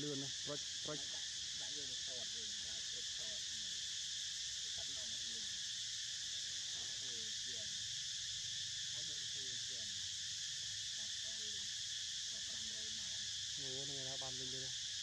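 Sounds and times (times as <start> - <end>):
insect chorus droning: 0.0 - 15.0.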